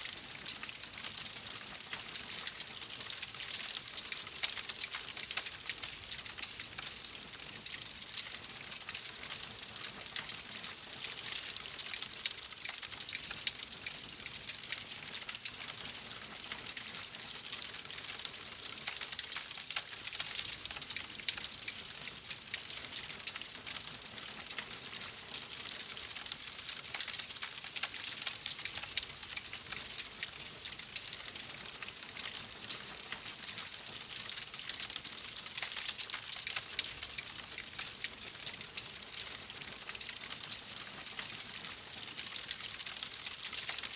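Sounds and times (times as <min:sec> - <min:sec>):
steady rain: 0:00.0 - 0:43.9
wood fire crackling: 0:00.1 - 0:15.9, 0:16.5 - 0:43.9.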